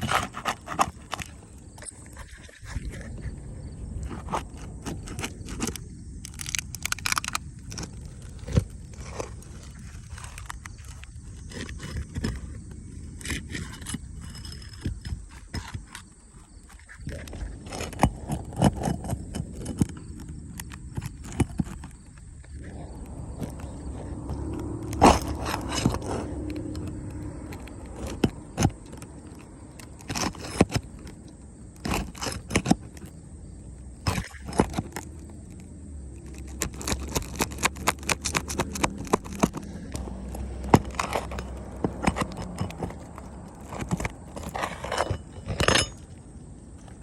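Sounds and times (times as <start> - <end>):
knocks and scrapes on roof: 0.0 - 3.4, 4.0 - 33.1, 34.0 - 35.6, 36.2 - 46.1.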